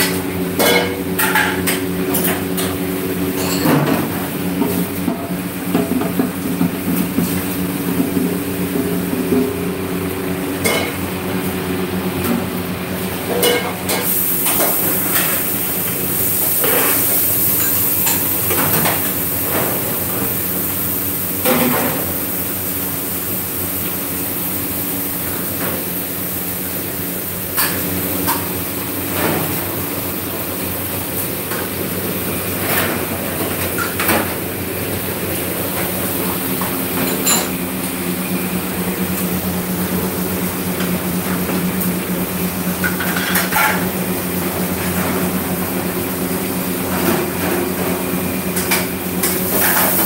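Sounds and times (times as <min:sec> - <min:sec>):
mechanical hum: 0:00.0 - 0:50.0.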